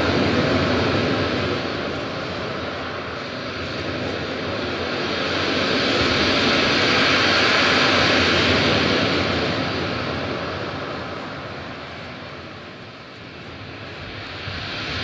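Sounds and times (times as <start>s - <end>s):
rushing rumbling noise: 0.0s - 15.0s.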